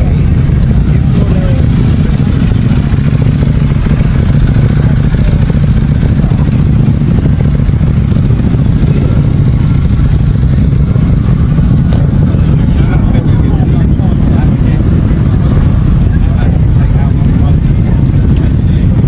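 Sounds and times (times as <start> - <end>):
many motorcycle engines rumbling: 0.0 - 19.0.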